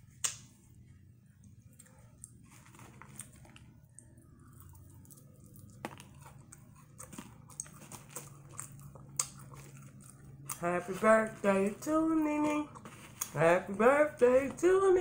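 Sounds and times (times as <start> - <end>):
crunchy chewing with crackles: 1.4 - 15.0.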